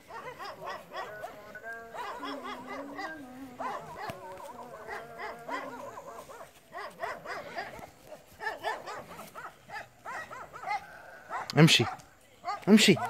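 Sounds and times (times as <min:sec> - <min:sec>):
dogs barking: 0:00.0 - 0:13.0.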